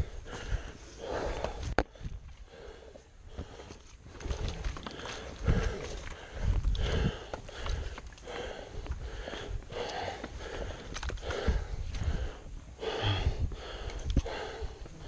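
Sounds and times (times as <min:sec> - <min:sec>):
person panting: 0:00.0 - 0:15.0.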